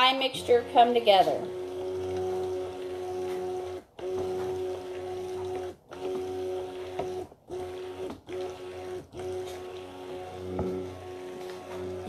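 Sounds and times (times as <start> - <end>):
hand blender motor humming: 0.0 - 12.0.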